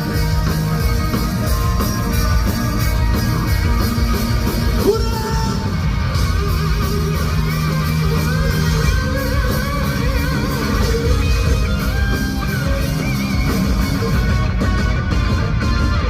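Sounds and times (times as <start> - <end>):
electric guitar melody: 0.0 - 16.0
live rock band playing: 0.0 - 16.0.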